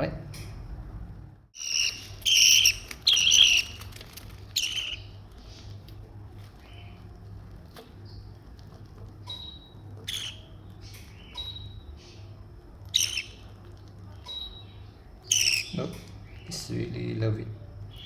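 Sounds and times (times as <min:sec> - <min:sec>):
baby birds begging chirps: 0:01.6 - 0:08.6, 0:09.2 - 0:17.2.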